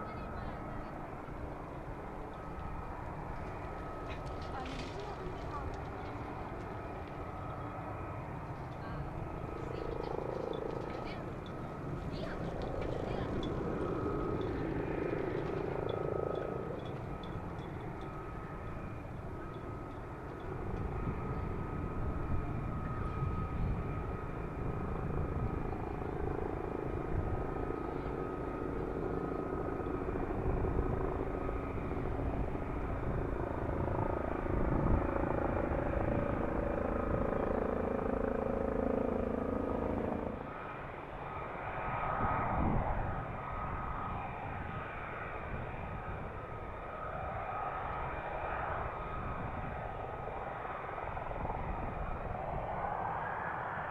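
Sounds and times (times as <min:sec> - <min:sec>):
jet engine rumble and whine: 0:00.0 - 0:53.9.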